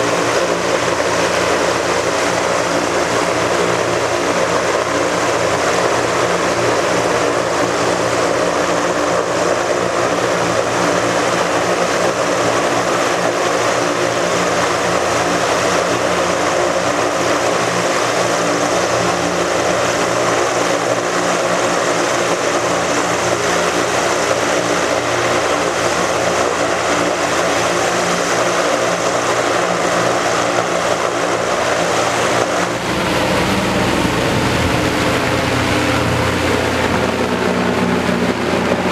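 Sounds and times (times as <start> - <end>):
airship propeller engines droning: 0.0 - 38.9.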